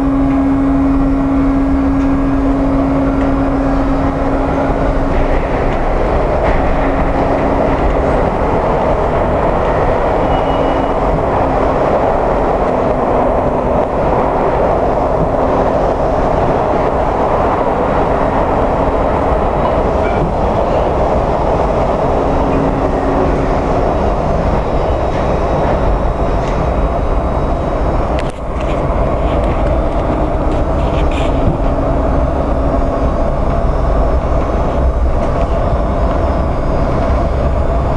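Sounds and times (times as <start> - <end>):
low hum: 0.0 - 37.9
subway train rail rumble: 0.0 - 37.9.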